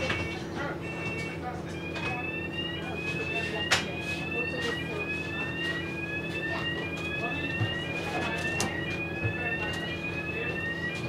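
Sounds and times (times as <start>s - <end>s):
electronic warning tone: 0.0s - 11.0s.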